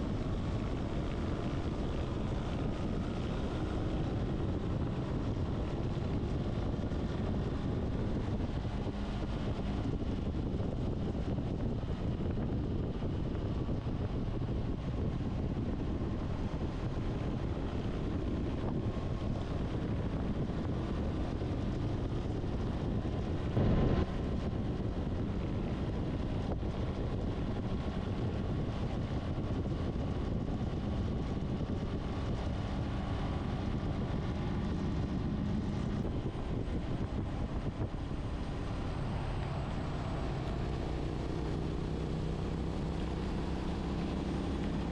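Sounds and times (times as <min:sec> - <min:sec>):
motorcycle engine running: 0:00.0 - 0:44.9
wind on microphone: 0:00.0 - 0:44.9.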